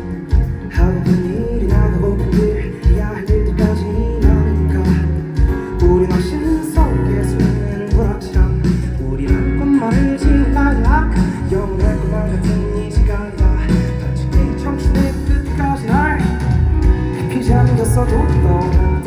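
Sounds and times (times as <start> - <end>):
bass line: 0.0 - 19.0.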